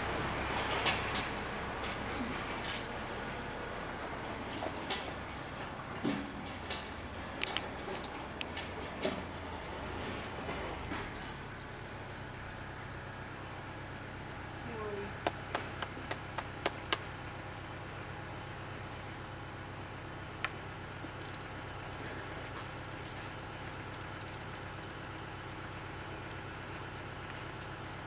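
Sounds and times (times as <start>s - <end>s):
horse tack clicking and jingling: 0.0s - 28.0s
steady low hum: 0.0s - 28.0s.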